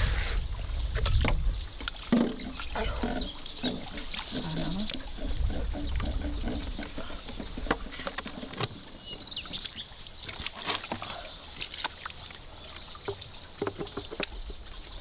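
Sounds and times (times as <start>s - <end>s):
water sloshing: 0.0s - 15.0s
water trickling from a hose: 0.0s - 15.0s.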